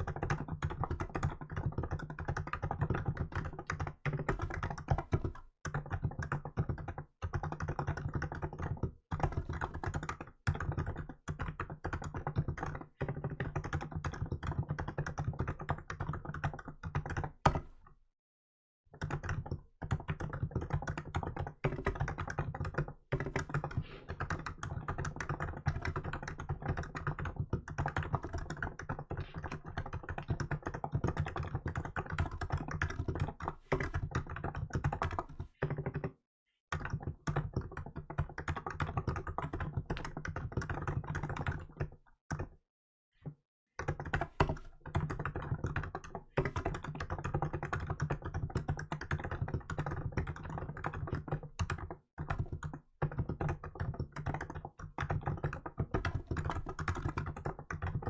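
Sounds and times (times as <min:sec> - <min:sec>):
rapid keyboard typing: 0:00.0 - 0:17.9, 0:18.9 - 0:42.6, 0:43.2 - 0:58.0.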